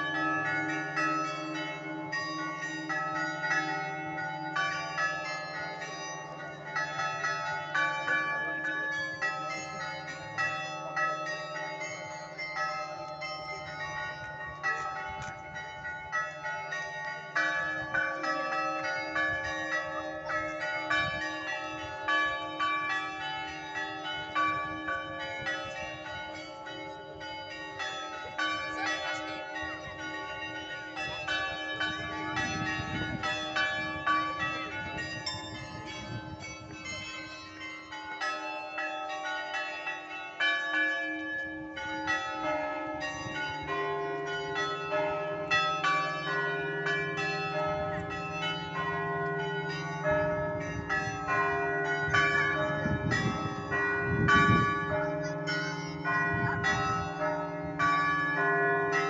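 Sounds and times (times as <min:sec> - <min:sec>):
heavy bells ringing: 0:00.0 - 0:59.0.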